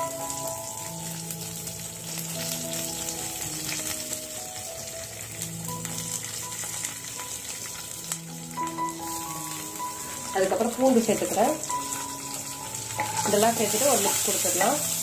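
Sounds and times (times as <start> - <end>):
background music with held notes: 0.0 - 15.0
spices sizzling in hot oil: 0.0 - 15.0.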